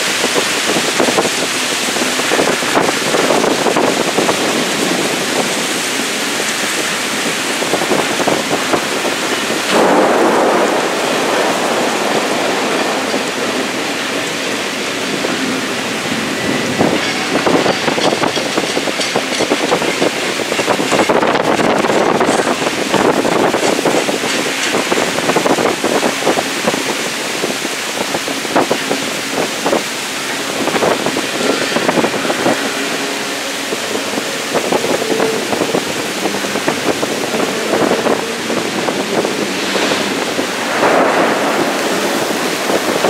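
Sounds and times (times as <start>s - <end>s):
heavy rain: 0.0s - 43.0s
train rolling past: 0.0s - 43.0s.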